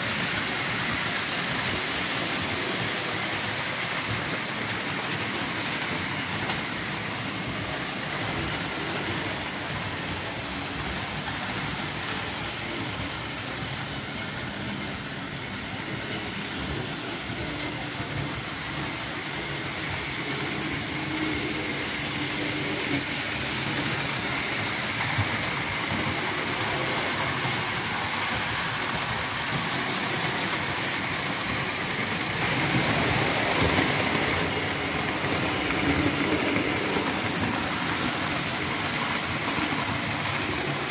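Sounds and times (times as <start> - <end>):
model train wheels rattling: 0.0 - 40.9.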